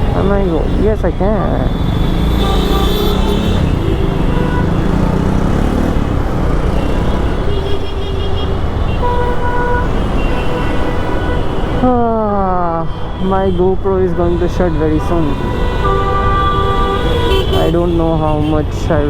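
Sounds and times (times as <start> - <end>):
traffic engines and road noise: 0.0 - 19.0
vehicle horns honking: 0.0 - 19.0.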